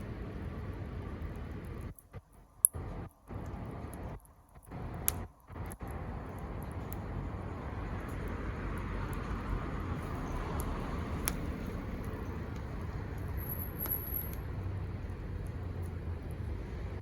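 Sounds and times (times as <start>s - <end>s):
fire crackling pops: 0.0s - 17.0s
wood fire burning: 0.0s - 17.0s.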